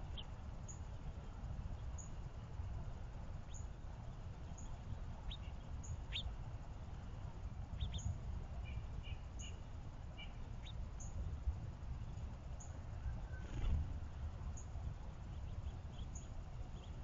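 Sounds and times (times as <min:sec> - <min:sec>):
songbirds chirping: 0:00.0 - 0:17.0
steady low rumble: 0:00.0 - 0:17.0.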